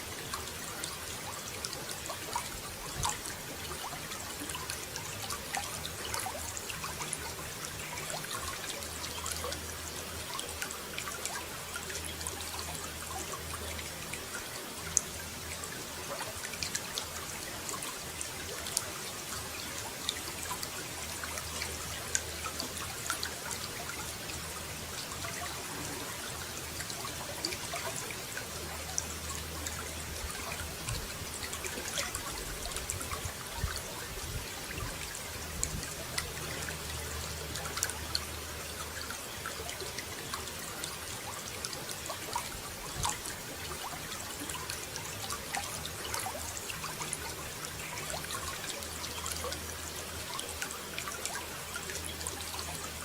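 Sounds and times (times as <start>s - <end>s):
water running and trickling: 0.0s - 53.0s.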